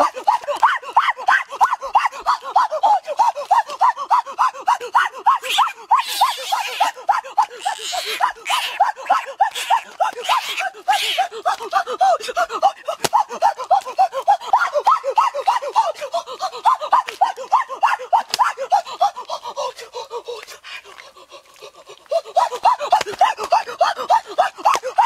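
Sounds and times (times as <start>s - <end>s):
hands and feet in wet mud: 0.0s - 25.0s.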